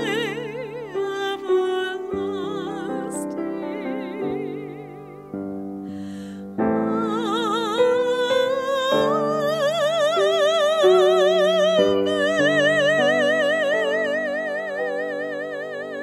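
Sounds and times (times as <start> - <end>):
woman singing with vibrato: 0.0 - 5.4, 6.7 - 16.0.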